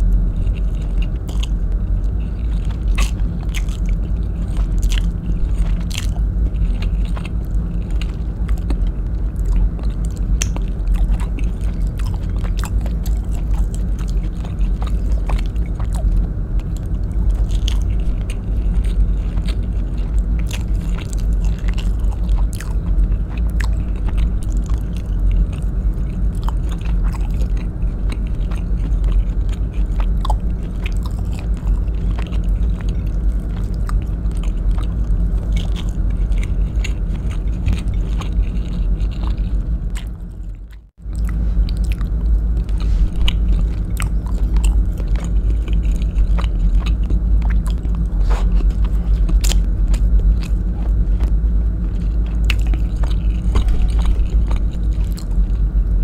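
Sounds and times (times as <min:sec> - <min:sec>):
low rumble: 0:00.0 - 0:56.0
chewing mouth clicks: 0:00.1 - 0:56.0.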